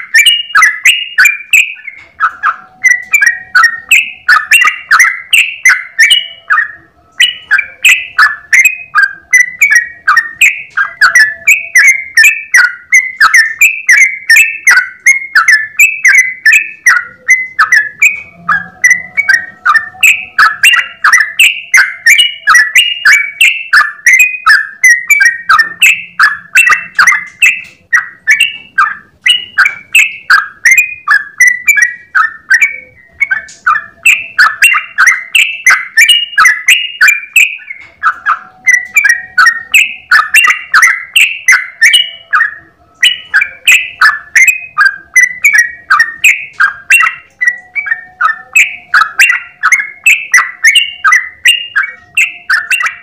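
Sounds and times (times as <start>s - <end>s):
bird singing bubbling notes: 0.0s - 53.0s.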